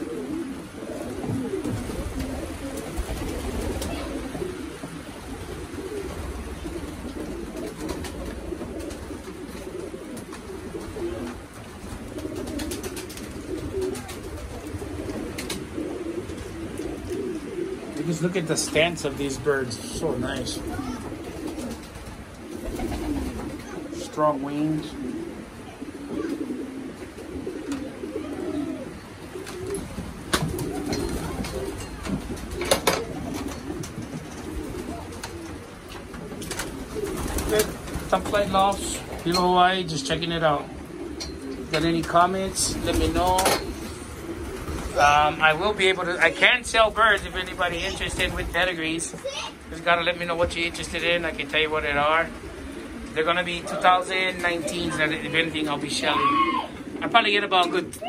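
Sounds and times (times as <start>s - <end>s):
pigeons cooing: 0.0s - 58.0s.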